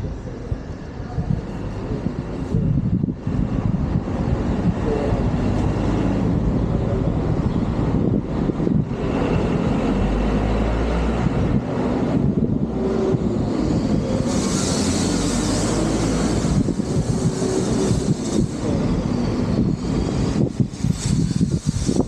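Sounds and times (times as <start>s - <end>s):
hissing wind or road noise: 0.0s - 22.0s
vehicle running with low rumble: 0.0s - 22.0s.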